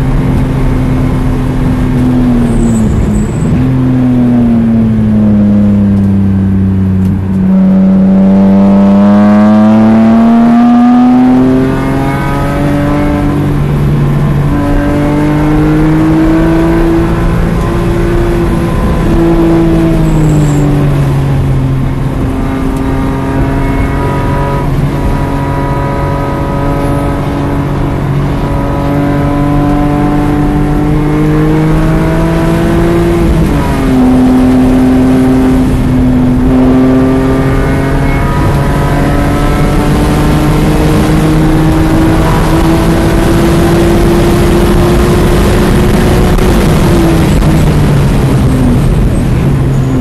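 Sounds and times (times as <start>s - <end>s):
car engine revving from inside cabin: 7.0s - 48.4s.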